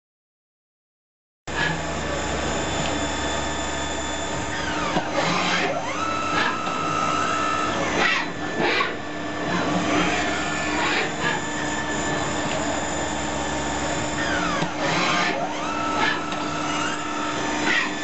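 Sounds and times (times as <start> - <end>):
lathe mechanical hum: 1.5 - 18.0
motor whine: 1.5 - 18.0.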